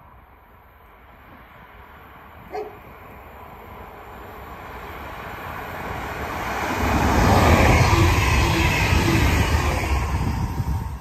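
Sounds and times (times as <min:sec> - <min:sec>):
low train rumble: 0:00.0 - 0:11.0
train wheels and air rushing: 0:00.0 - 0:11.0.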